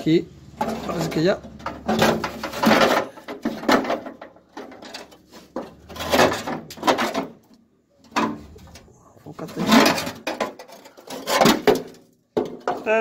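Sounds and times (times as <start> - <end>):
metal scraping and clunking: 0.0 - 13.0.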